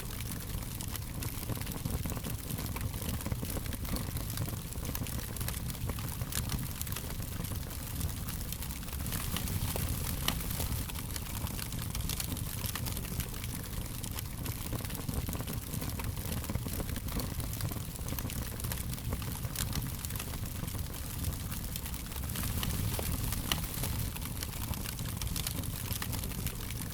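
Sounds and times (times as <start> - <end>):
fire crackling and popping: 0.0 - 26.9.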